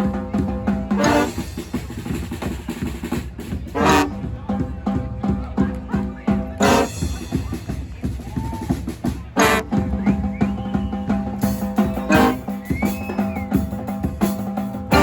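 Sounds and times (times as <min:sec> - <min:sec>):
brass band playing: 0:00.0 - 0:10.4, 0:11.0 - 0:15.0
bass drum and snare: 0:00.0 - 0:15.0.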